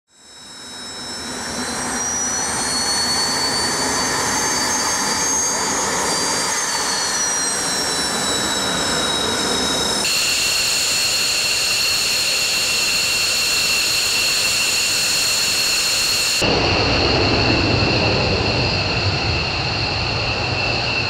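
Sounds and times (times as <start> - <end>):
jet engines whining: 0.1 - 21.0.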